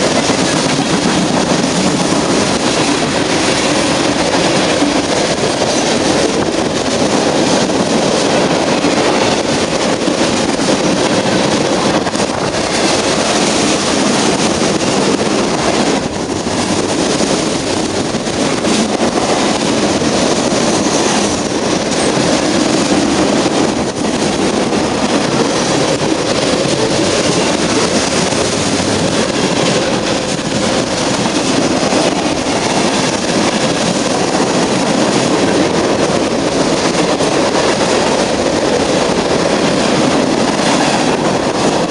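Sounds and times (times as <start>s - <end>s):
train cars rolling on track: 0.0s - 41.9s.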